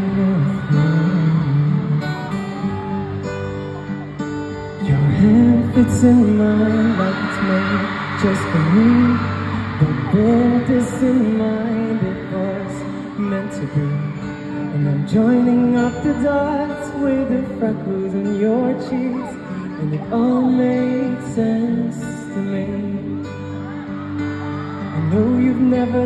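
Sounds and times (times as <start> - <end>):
man singing into microphone: 0.0 - 3.0, 4.8 - 23.5, 24.7 - 26.0
acoustic guitar: 0.0 - 26.0.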